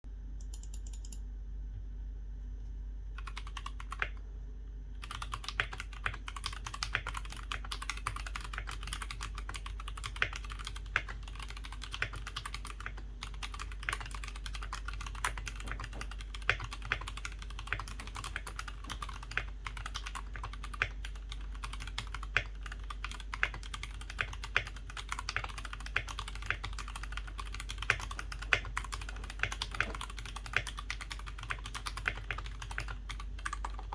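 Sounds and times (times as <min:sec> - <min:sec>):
steady low hum: 0:00.0 - 0:33.9
mechanical keyboard typing: 0:00.4 - 0:01.2, 0:03.2 - 0:04.2, 0:05.0 - 0:33.9.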